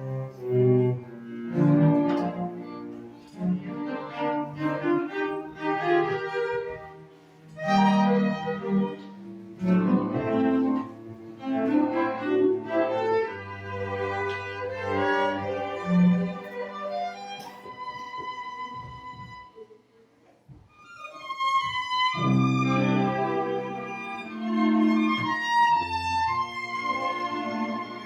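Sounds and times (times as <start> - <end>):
small instrumental ensemble: 0.0 - 28.0.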